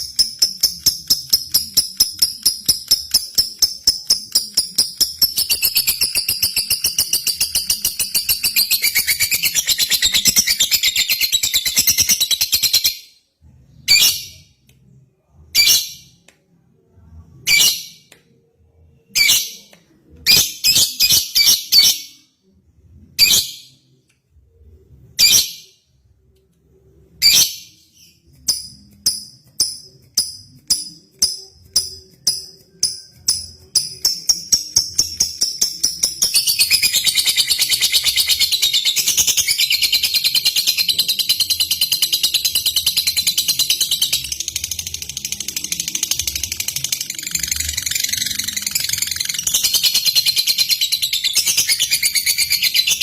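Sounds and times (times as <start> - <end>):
lovebird chirps: 0.0 - 16.2, 26.7 - 53.0.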